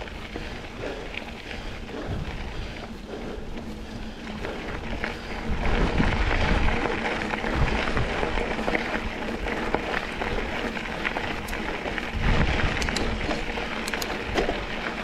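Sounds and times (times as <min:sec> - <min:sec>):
bike rattling: 0:00.0 - 0:15.0
bike tyres on dirt trail: 0:00.0 - 0:15.0
wind rumbling on microphone: 0:00.0 - 0:15.0.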